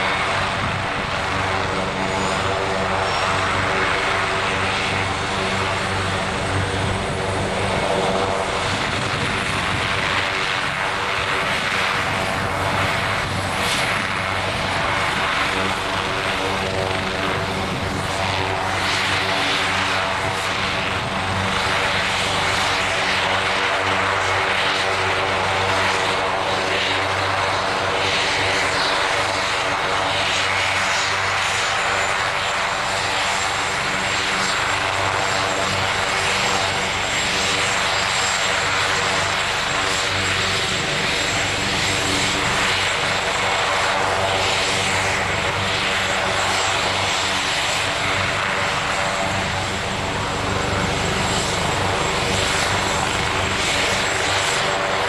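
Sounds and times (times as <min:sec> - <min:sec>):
helicopter rotor thrum: 0:00.0 - 0:24.4, 0:31.7 - 0:55.0
turbine engine whine: 0:00.0 - 0:55.0.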